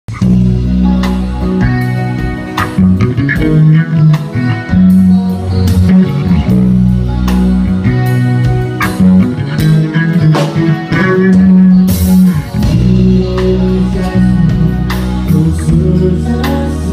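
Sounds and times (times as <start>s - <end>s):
rock band playing: 0.1s - 16.9s.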